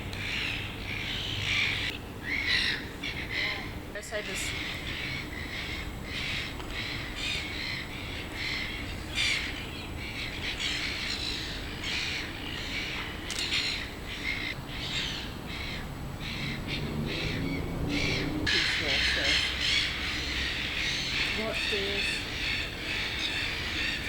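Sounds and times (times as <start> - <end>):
birds giving harsh calls: 0.0 - 24.0.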